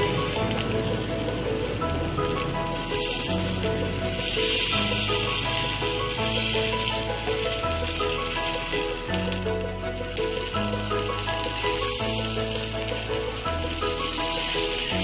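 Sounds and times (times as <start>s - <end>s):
background music: 0.0s - 15.0s
batter frying in hot oil: 0.0s - 15.0s.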